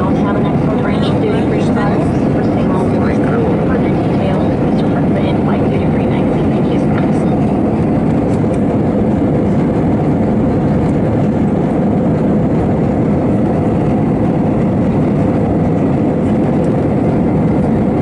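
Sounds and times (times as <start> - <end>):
jet airliner cabin noise: 0.0 - 18.0.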